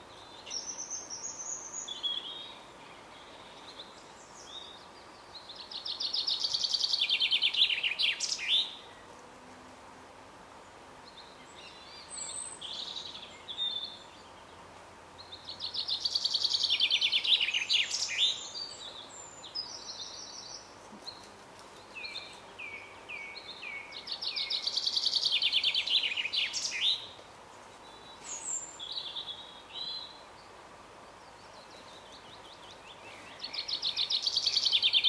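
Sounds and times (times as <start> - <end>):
songbirds singing: 0.0 - 9.3, 10.5 - 35.0.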